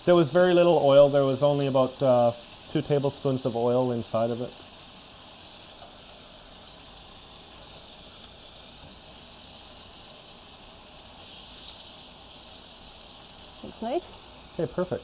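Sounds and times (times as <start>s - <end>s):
lamb chops sizzling in a pan: 0.0s - 15.0s.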